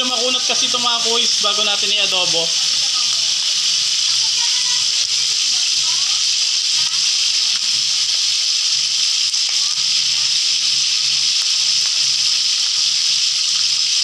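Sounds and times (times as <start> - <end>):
food deep-frying in oil: 0.0 - 14.0.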